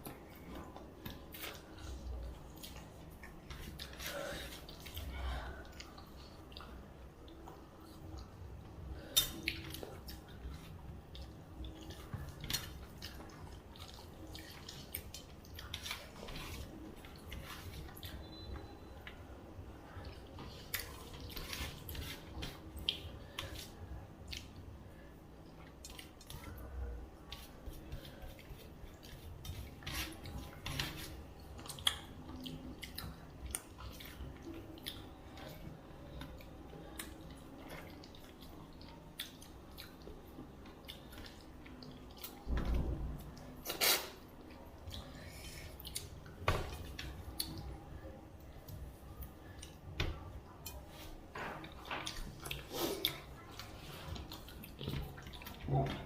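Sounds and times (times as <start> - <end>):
food being eaten: 9.0 - 19.2, 19.8 - 42.6, 43.4 - 49.8, 50.5 - 56.0.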